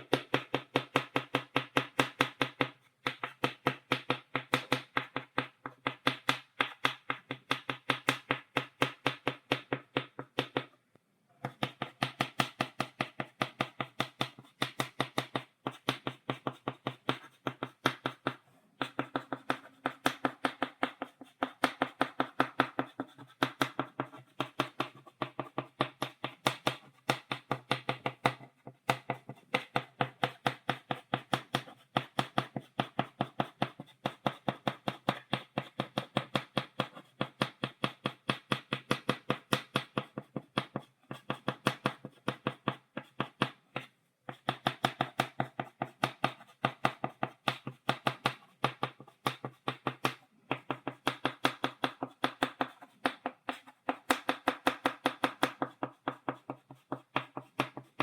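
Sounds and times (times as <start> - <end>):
chalk tapping on a blackboard: 0.0 - 10.8, 11.4 - 58.0.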